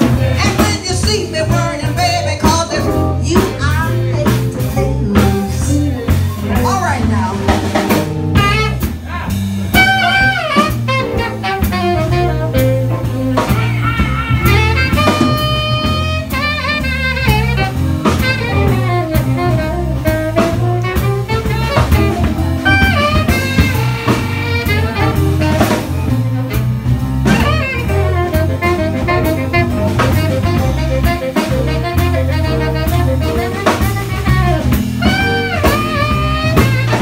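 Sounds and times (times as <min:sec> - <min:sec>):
bass: 0:00.0 - 0:37.0
drum kit: 0:00.0 - 0:37.0
electric guitar: 0:00.0 - 0:37.0
saxophone melody: 0:00.0 - 0:37.0.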